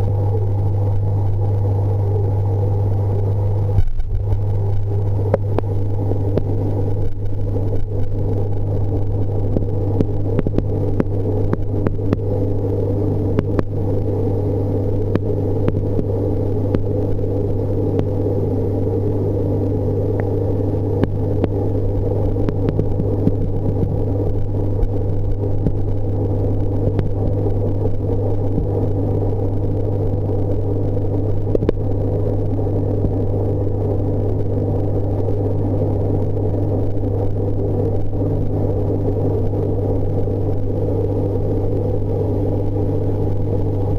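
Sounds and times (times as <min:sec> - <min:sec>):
aquarium equipment humming: 0:00.0 - 0:43.9.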